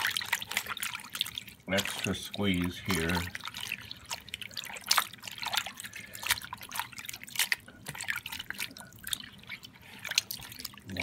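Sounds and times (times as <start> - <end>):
liquid splashing and dripping: 0.0 - 11.0.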